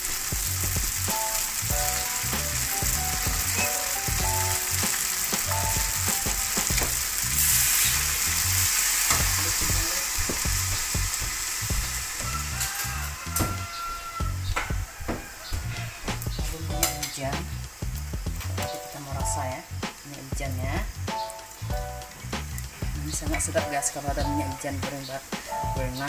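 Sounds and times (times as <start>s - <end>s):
noodles sizzling in a wok: 0.0s - 15.4s, 16.2s - 26.0s.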